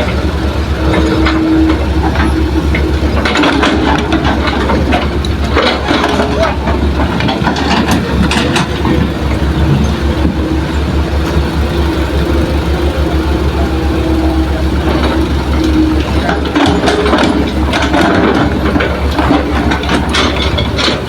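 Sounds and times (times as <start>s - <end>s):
heavy diesel engine running: 0.0s - 21.0s
knocking and clatter: 0.9s - 13.0s, 14.2s - 21.0s.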